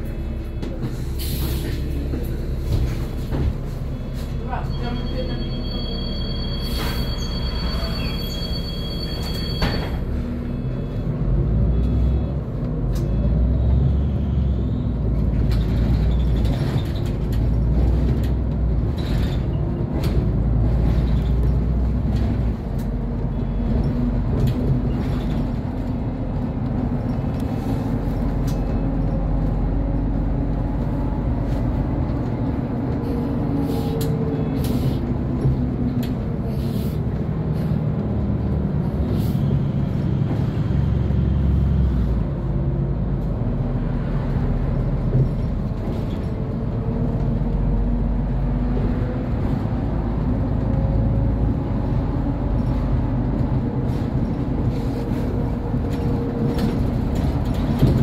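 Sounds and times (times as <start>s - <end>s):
bus engine pulling away: 0.0s - 58.0s.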